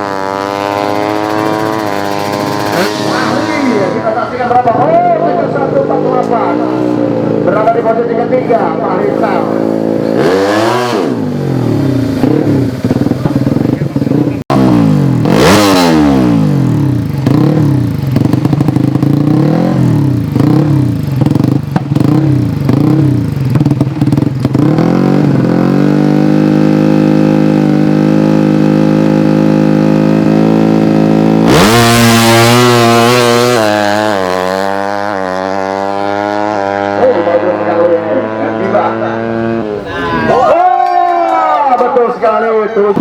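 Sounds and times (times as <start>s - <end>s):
motorcycle accelerating through gears: 0.0s - 39.9s
motorcycle engine revving: 0.0s - 40.5s.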